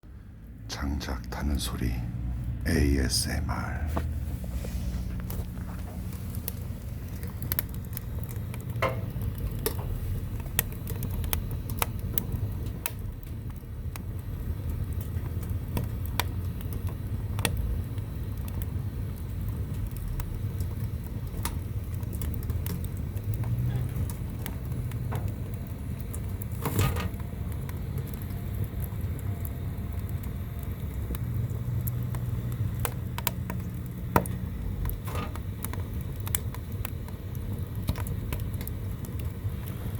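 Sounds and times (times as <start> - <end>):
low fire rumble: 0.0 - 39.9
firewood crackling and popping: 0.1 - 39.9.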